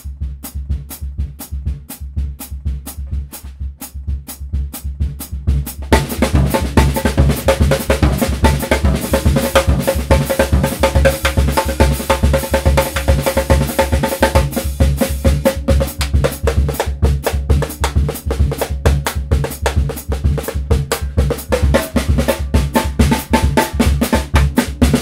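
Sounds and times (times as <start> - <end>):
drum kit played with sticks: 0.0 - 25.0.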